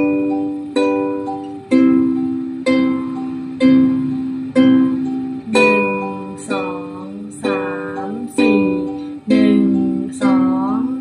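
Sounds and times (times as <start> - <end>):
ukulele strumming: 0.0 - 11.0.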